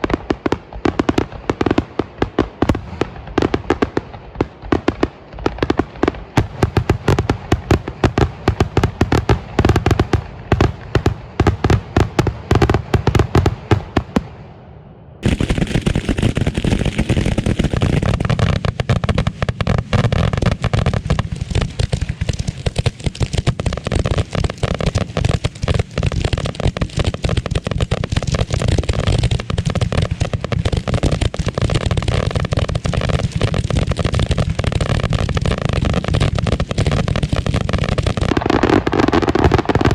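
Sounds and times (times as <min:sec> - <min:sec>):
firework bangs: 0:00.0 - 0:39.9.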